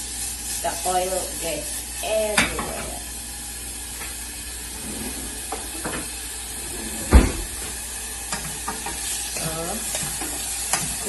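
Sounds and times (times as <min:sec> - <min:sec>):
onion sizzling in frying pan: 0:00.0 - 0:11.0.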